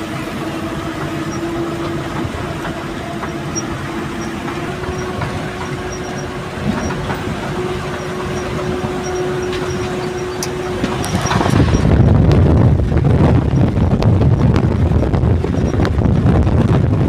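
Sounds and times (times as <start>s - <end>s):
truck diesel engine rumble: 0.0s - 17.0s
wind buffeting microphone: 0.0s - 17.0s.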